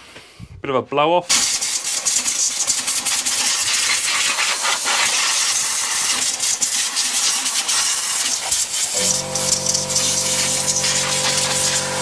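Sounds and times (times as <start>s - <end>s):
air blow gun hissing: 1.3s - 12.0s.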